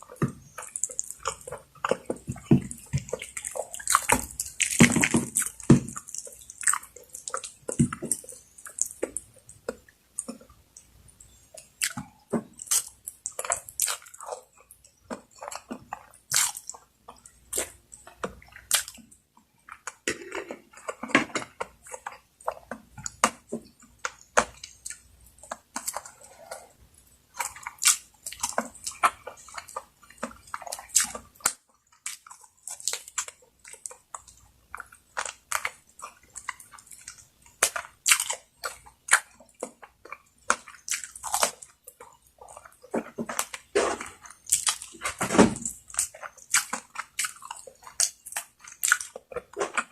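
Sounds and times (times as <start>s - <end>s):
wet chewing and mouth smacks: 0.0s - 49.9s.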